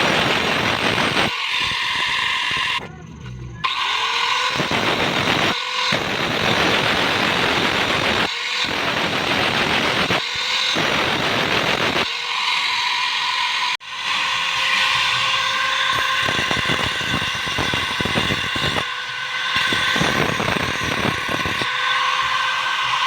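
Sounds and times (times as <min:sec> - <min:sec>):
angle grinder grinding steel: 0:00.0 - 0:23.0
grinder motor whining free: 0:00.0 - 0:23.0.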